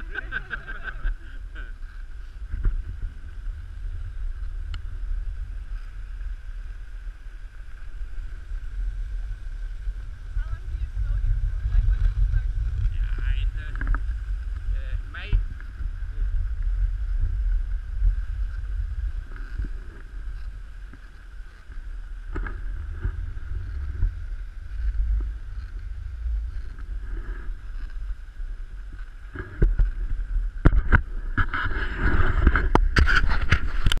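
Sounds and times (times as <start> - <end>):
sled gliding over snow: 0.0 - 34.0
wind buffeting microphone: 0.0 - 34.0.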